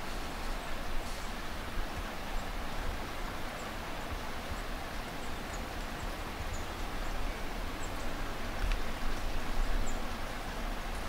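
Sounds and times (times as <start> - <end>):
outdoor hiss: 0.0 - 11.0.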